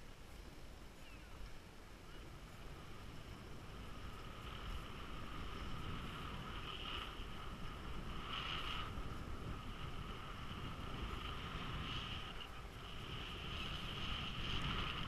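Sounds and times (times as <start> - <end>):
wind on microphone: 0.0 - 15.0
skis hissing over snow: 2.2 - 15.0.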